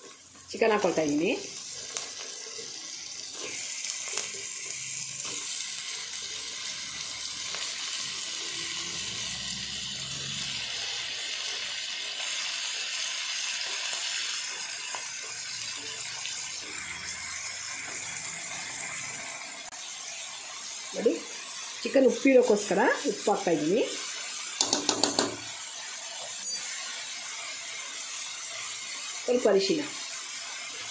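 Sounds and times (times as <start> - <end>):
chicken sizzling in hot oil: 0.0 - 30.9.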